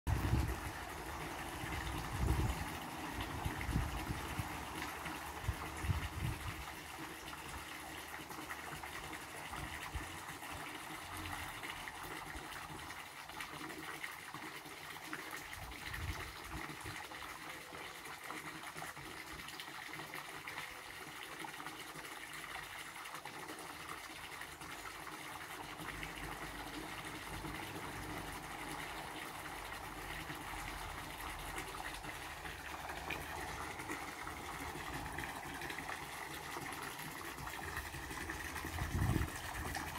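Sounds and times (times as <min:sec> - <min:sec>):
fountain splashing into pond: 0:00.1 - 0:39.9.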